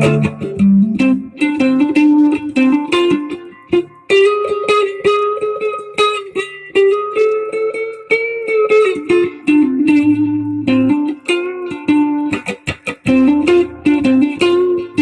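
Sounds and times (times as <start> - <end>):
guitar with delay effect: 0.0 - 15.0.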